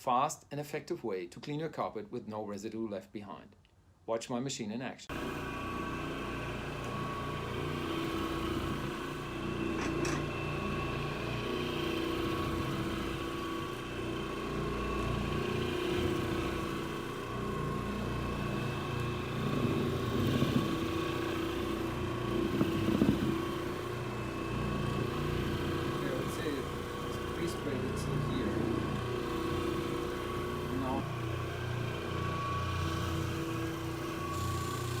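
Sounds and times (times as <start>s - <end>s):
carpet machine motor humming: 5.1s - 35.0s.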